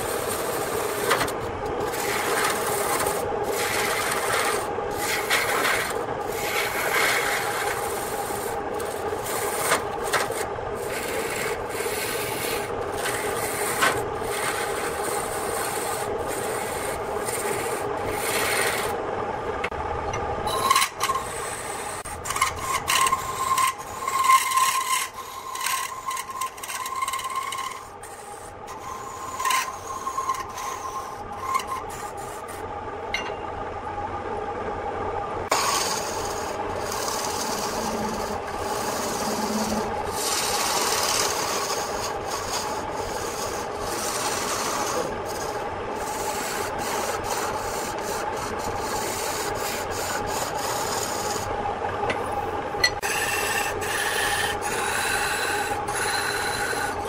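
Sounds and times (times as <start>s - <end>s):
tool scraping spinning wood: 0.0s - 33.3s, 35.4s - 57.0s
motor humming: 0.0s - 57.0s
thin whine: 0.0s - 57.0s.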